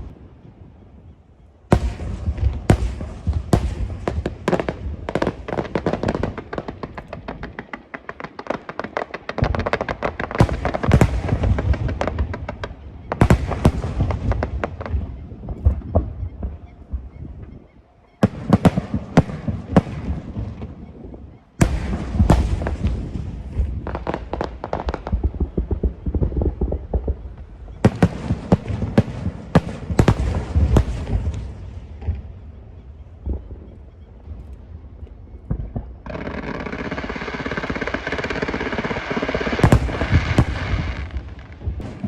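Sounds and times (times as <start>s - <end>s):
fireworks bangs and crackle: 1.7s - 42.0s.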